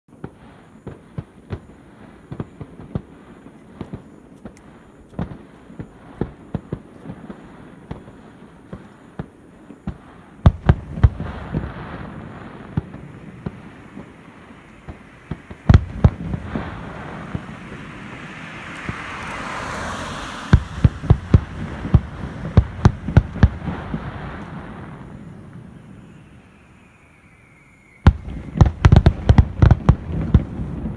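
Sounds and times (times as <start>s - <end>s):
hissing crackle: 0.2s - 30.9s.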